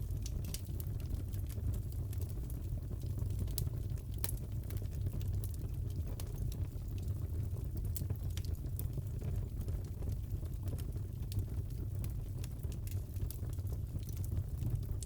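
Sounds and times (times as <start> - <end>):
fire crackling rumble: 0.0 - 15.0
fire pops and snaps: 0.0 - 15.0.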